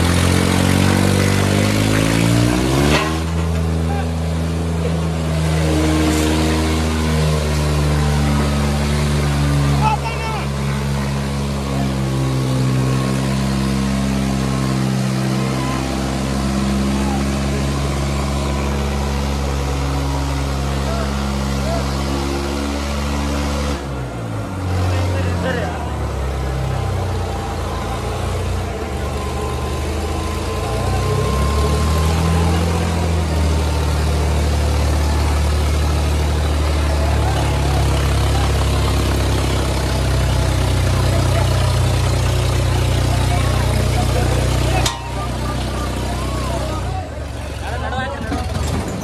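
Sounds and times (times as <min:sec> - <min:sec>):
tractor diesel engines under load: 0:00.0 - 0:49.0.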